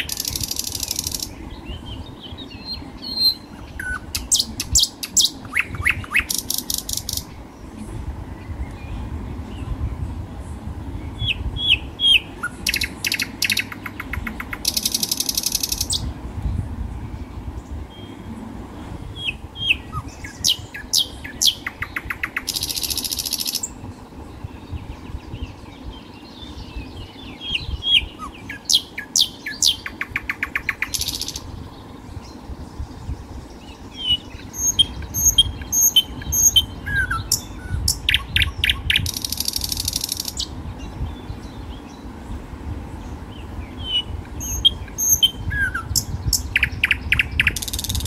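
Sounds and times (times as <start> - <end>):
birds chirping and singing: 0.0 - 48.0.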